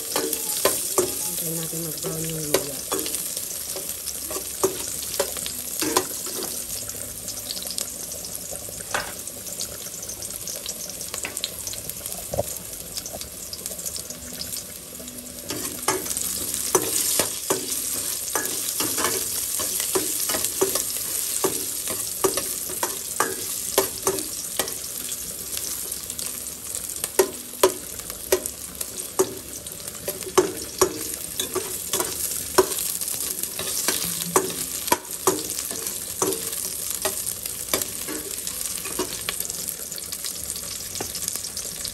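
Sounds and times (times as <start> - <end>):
ginger and shallots sizzling in oil: 0.0 - 41.9.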